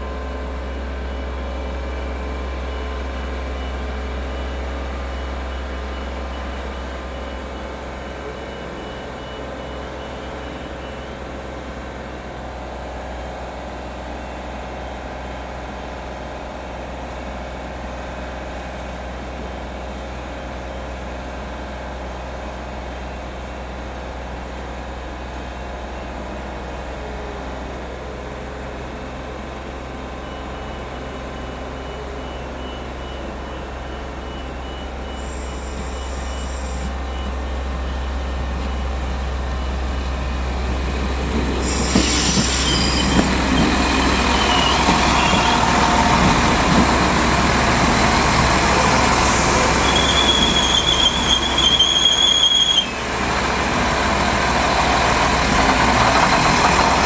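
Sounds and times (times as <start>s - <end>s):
train engine droning: 0.0s - 57.0s
train wheel and rail rush: 0.0s - 57.0s.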